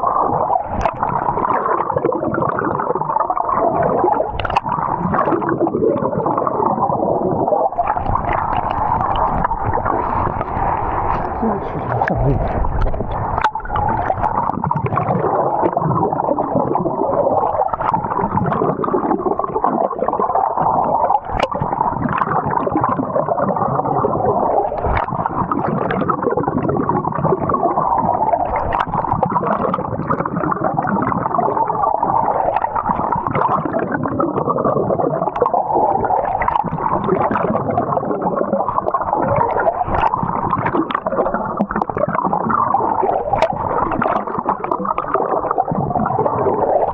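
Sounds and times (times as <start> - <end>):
water gurgling and sloshing: 0.0 - 46.9.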